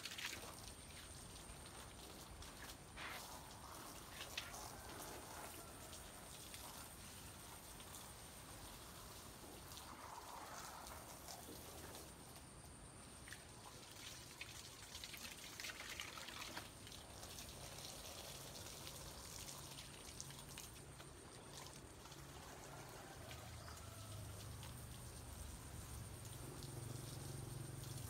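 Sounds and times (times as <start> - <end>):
small water splashes: 0.0 - 28.0
water running from garden hose: 0.0 - 28.0.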